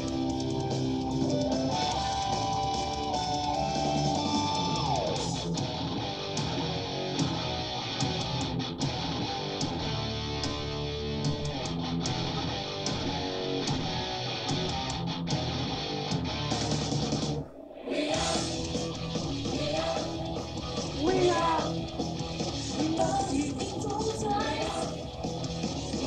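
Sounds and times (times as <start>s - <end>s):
heavy metal music: 0.0s - 26.0s.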